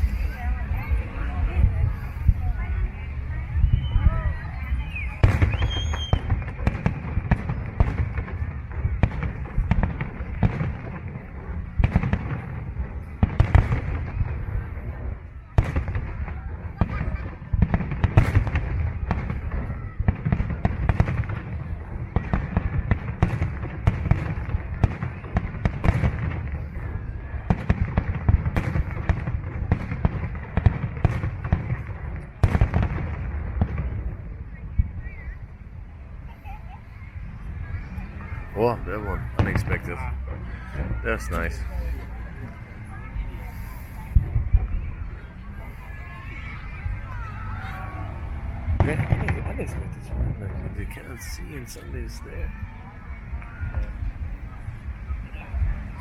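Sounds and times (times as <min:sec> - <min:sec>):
deep continuous rumble: 0:00.0 - 0:56.0
fireworks bangs: 0:00.0 - 0:56.0.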